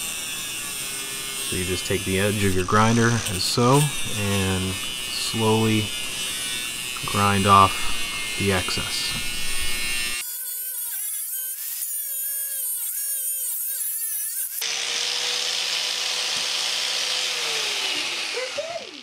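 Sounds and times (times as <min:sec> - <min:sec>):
angle grinder cutting metal: 0:00.0 - 0:19.0.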